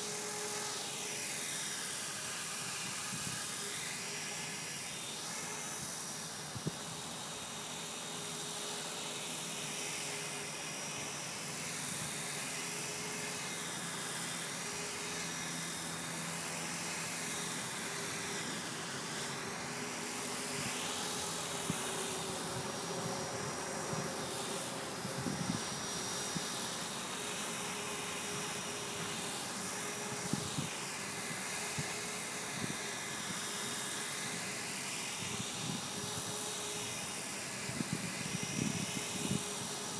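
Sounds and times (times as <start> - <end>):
rc helicopter whining: 0.0 - 39.9.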